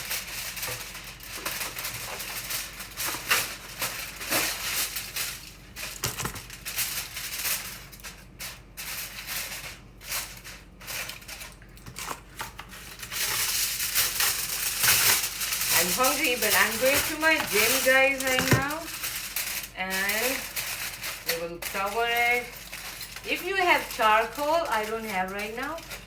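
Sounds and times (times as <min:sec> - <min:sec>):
crinkling and rustling: 0:00.0 - 0:26.0.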